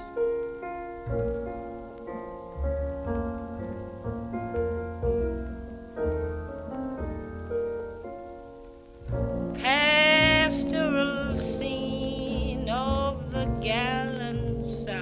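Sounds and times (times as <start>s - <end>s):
piano-led jazz band: 0.0s - 15.0s.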